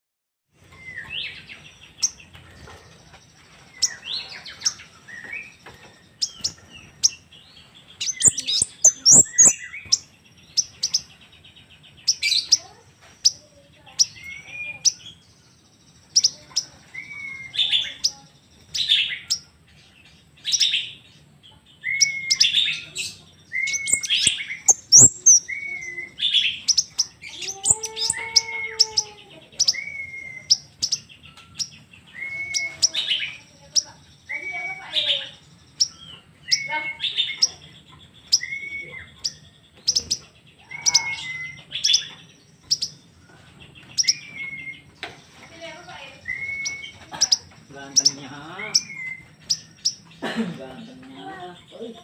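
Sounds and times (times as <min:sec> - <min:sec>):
bird chirping and trilling: 0:00.6 - 0:52.0.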